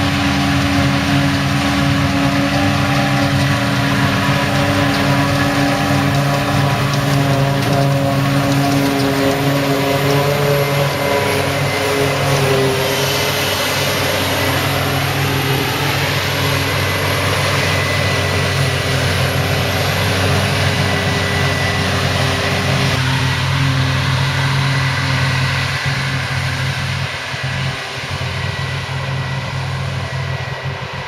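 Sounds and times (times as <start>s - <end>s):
diesel farm machinery engine drone: 0.0s - 31.0s
high machine whine: 0.0s - 31.0s.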